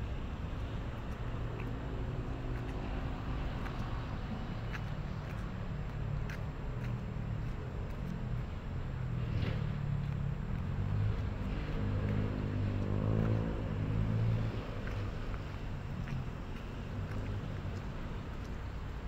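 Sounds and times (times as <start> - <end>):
vehicle passing: 0.0 - 18.8
city road traffic rumble: 0.0 - 19.0.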